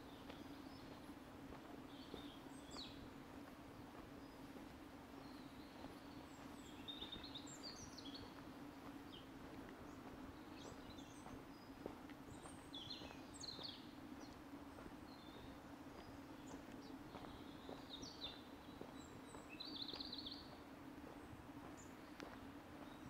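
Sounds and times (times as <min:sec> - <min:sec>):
faint low hum: 0:00.0 - 0:23.0
small birds chirping and twittering: 0:00.0 - 0:23.0.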